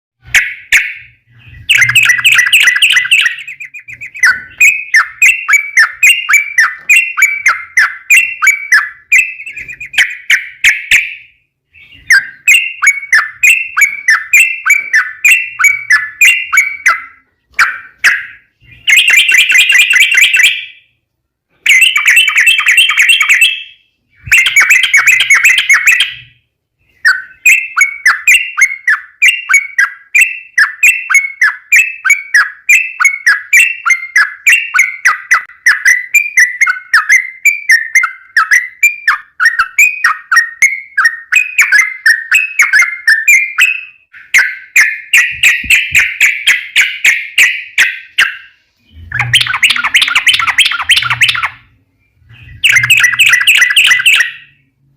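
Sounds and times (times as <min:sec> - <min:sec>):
bird singing chirpy notes: 0:00.2 - 0:54.9.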